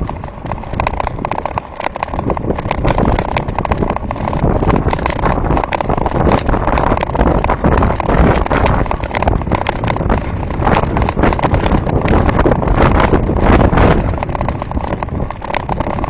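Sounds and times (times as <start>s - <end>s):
bicycle road noise: 0.0s - 16.0s
small knocks and rattles: 0.0s - 16.0s
wind buffeting microphone: 0.0s - 16.0s.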